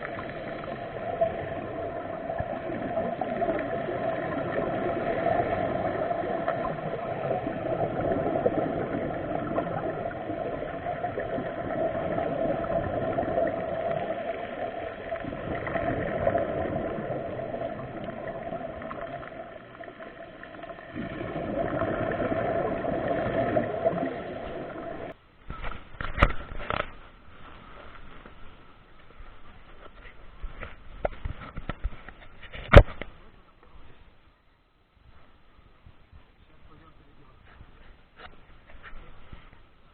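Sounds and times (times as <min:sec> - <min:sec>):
water noise: 0:00.0 - 0:39.9.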